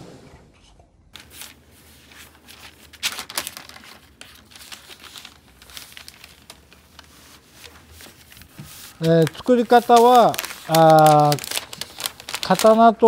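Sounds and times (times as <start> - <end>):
wrapping paper crinkling: 1.2 - 13.0.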